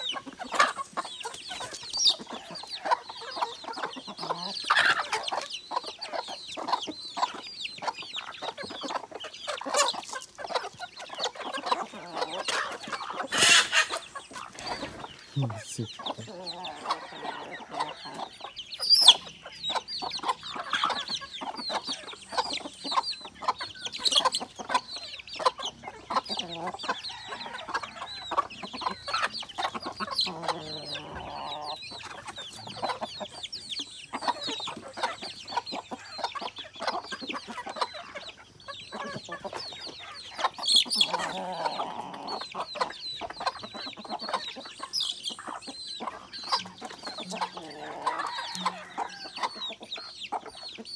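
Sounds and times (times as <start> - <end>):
chickens clucking: 0.0 - 50.9
chicks peeping: 0.0 - 50.9
long low chicken calls: 0.0 - 50.9.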